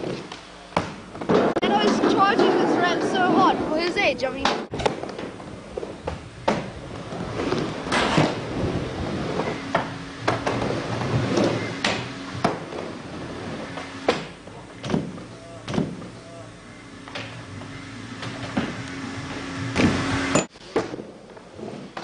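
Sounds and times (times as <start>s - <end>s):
skateboard wheels rolling on ramp: 1.0s - 16.2s, 17.0s - 22.0s.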